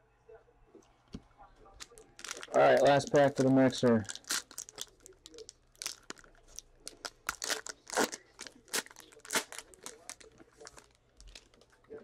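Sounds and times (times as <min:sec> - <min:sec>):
foil wrapper tearing and crinkling: 0:01.8 - 0:11.6.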